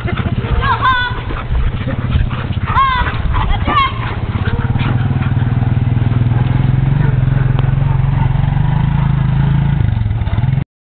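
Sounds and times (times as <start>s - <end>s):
quad engine idling: 0.0s - 10.6s.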